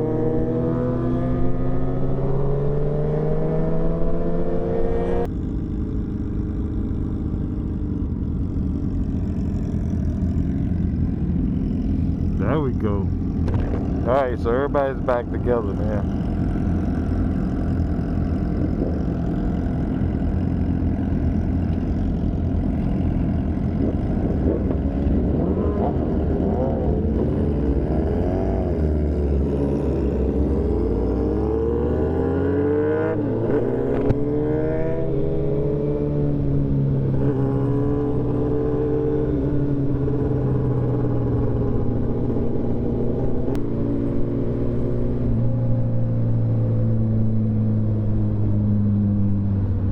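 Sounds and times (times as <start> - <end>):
low wind rumble: 0.0 - 49.9
motorcycle engine accelerating: 0.0 - 49.9.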